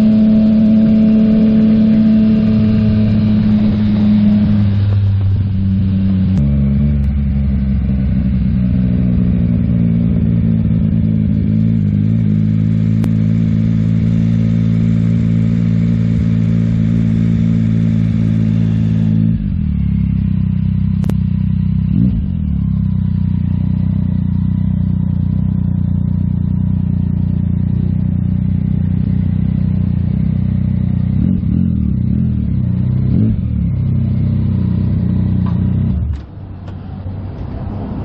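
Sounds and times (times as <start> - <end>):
motorcycle engine idling: 0.0 - 37.3.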